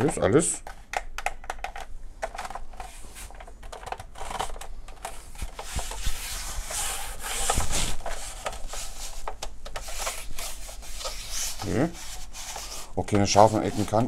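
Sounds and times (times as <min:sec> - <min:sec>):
hands rubbing plastic: 0:00.0 - 0:14.0.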